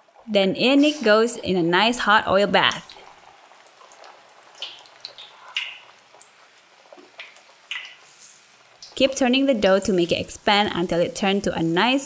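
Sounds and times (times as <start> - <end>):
dough deep-frying in oil: 0.0 - 12.0.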